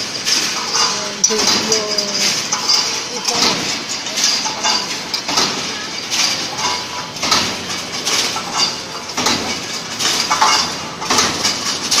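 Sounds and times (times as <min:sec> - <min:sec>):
welding machine metallic clatter: 0:00.0 - 0:12.0.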